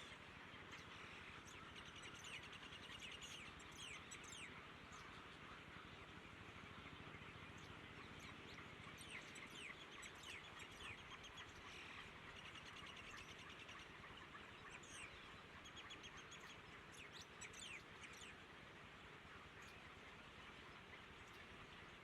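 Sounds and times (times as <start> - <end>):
small birds chirping: 0.0 - 22.0
steady background hiss: 0.0 - 22.0.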